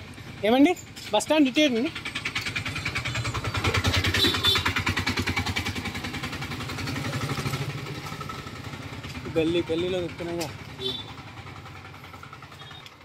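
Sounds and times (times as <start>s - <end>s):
small engine pulsing: 0.0s - 13.0s.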